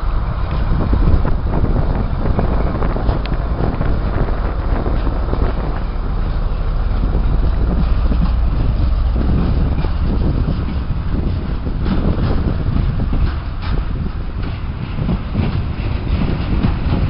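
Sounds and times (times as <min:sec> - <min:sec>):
rattles and clicks: 0:00.0 - 0:17.0
train rumbling: 0:00.0 - 0:17.0
wind buffeting microphone: 0:00.0 - 0:17.0.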